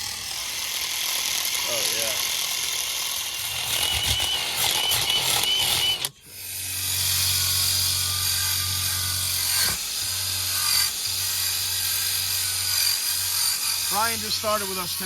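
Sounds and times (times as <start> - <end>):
power tool wire-brushing metal: 0.0 - 15.0.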